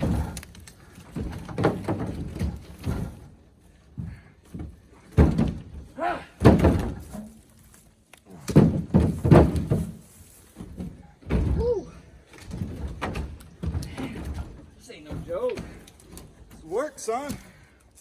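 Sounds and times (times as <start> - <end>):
firewood thudding onto pile: 0.0 - 3.3, 4.0 - 16.6.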